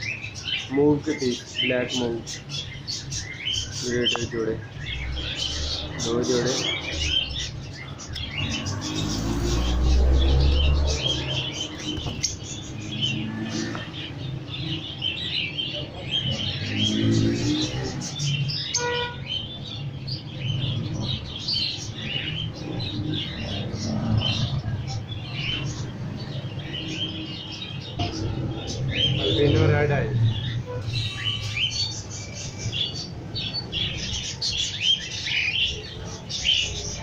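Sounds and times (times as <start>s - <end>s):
lovebirds chirping: 0.0s - 37.0s.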